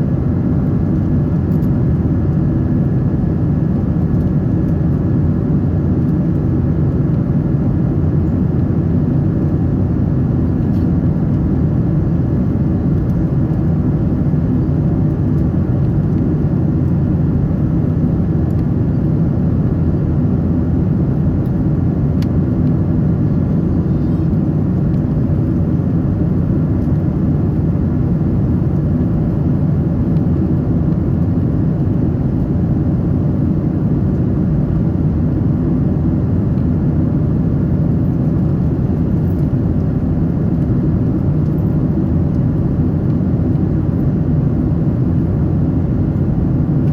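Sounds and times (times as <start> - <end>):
airliner cabin engine hum: 0.0 - 46.9.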